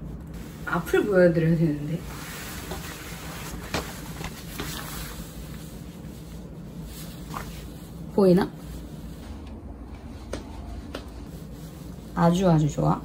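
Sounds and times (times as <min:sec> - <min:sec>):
clothing shifting: 0:02.0 - 0:12.9.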